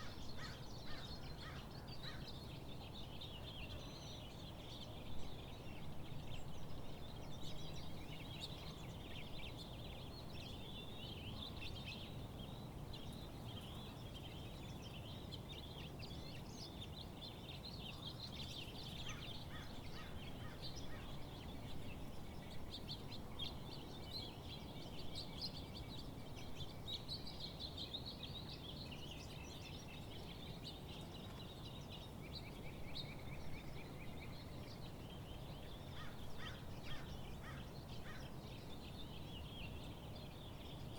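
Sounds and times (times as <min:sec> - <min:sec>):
low background noise: 0:00.0 - 0:40.9
many birds chirping: 0:00.0 - 0:40.9.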